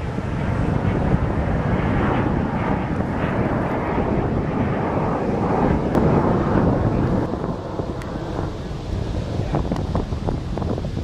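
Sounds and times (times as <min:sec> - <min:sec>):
jet flying past overhead: 0:00.0 - 0:11.0
wind buffeting microphone: 0:00.0 - 0:11.0.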